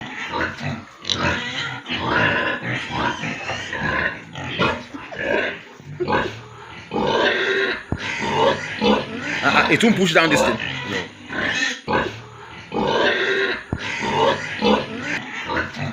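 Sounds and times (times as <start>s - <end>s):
pigs crying harshly: 0.0s - 15.9s.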